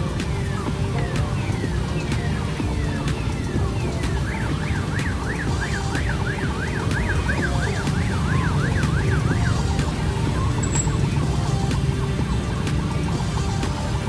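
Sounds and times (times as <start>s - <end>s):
siren-like wail: 0.0s - 13.3s.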